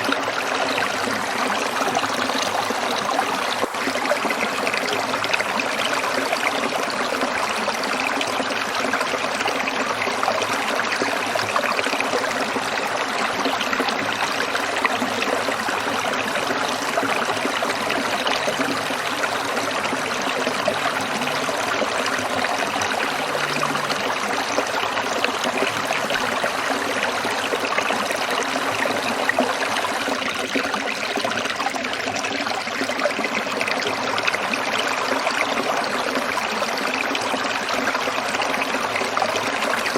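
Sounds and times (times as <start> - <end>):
stream water splashing over rocks: 0.0 - 39.9.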